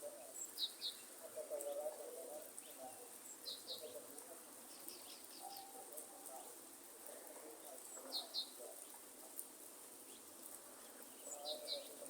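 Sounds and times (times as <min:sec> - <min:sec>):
faint hiss of light rain: 0:00.0 - 0:12.0.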